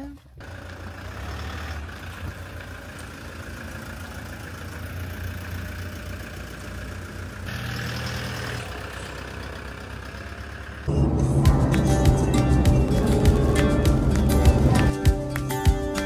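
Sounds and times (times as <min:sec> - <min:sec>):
vehicle engine rumbling: 0:00.0 - 0:15.3.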